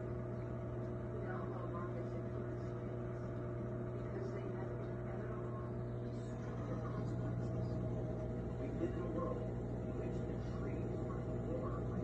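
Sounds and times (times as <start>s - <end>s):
aquarium pump humming: 0.0s - 12.0s.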